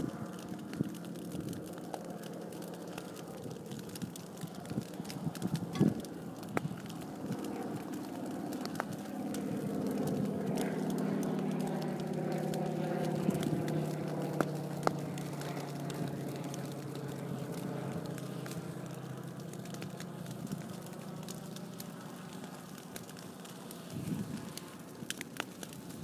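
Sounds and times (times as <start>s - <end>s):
engine humming: 0.0s - 25.8s
sharp crackles: 0.0s - 26.0s.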